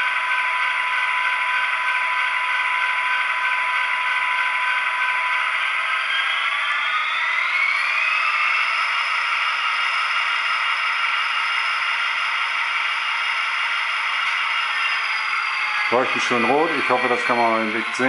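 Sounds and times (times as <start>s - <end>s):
model locomotive diesel sound: 0.0s - 18.0s.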